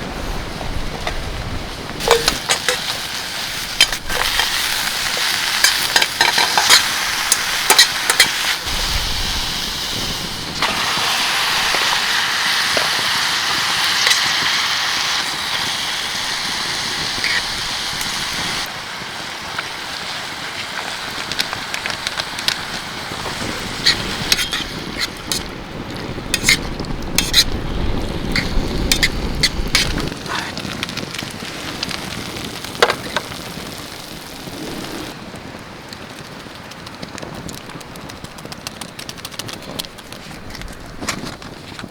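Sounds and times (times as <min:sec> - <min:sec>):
campfire crackling and sizzling: 0:00.0 - 0:41.9
fire popping: 0:00.0 - 0:41.9.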